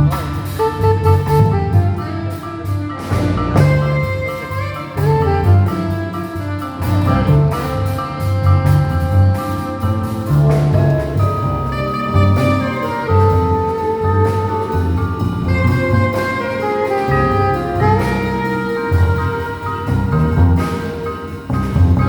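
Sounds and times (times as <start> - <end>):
small jazz band playing: 0.0 - 22.0.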